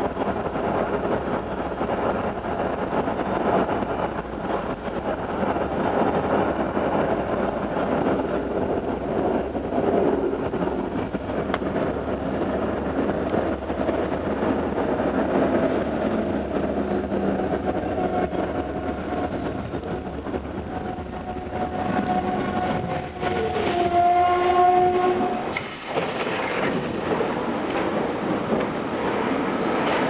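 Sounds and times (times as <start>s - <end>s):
tram rolling noise: 0.0s - 30.0s.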